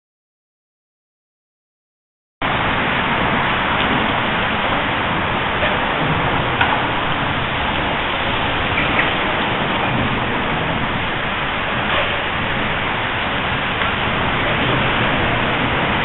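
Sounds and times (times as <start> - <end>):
loud rushing noise: 2.4 - 16.0.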